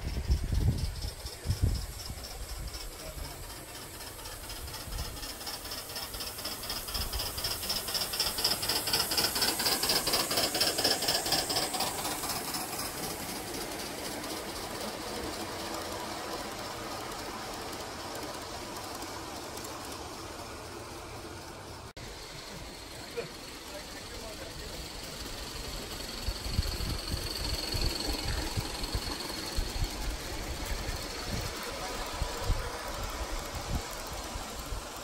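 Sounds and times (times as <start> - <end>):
freight cars rattling on track: 0.0 - 35.0
steam locomotive chuffing: 0.0 - 35.0.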